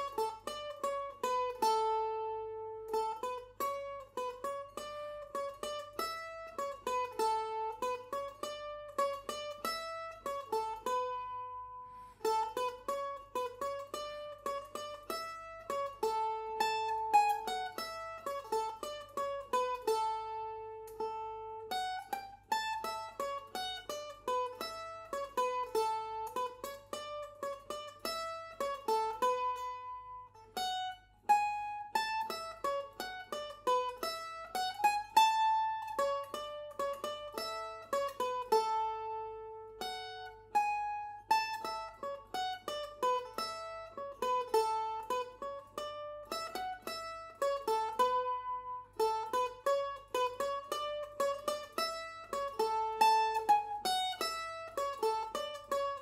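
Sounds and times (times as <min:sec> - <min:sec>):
plucked mandolin melody: 0:00.0 - 0:56.0.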